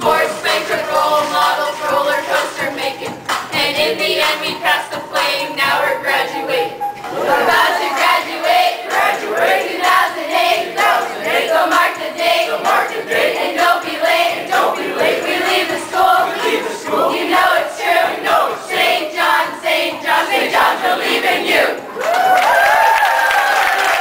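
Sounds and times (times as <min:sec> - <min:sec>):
young voices chanting a rap: 0:00.0 - 0:21.8.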